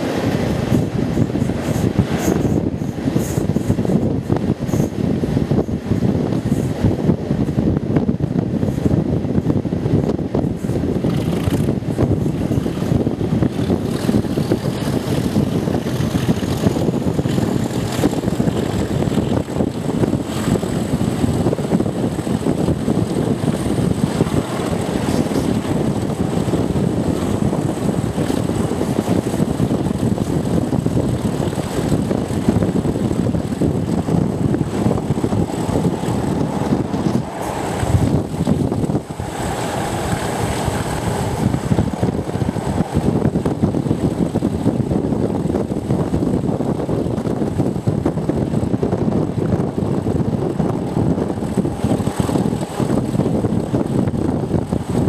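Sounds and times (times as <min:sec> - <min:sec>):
diesel locomotive engine working hard: 0:00.0 - 0:55.0
wind rushing over microphone: 0:00.0 - 0:55.0.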